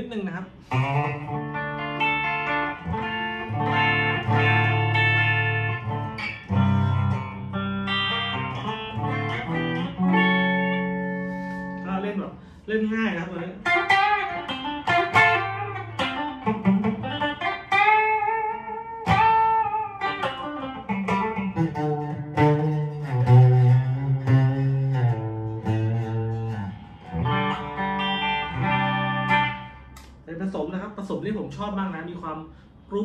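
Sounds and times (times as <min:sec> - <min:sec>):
clean electric guitar notes: 0:00.6 - 0:12.0, 0:13.6 - 0:30.1.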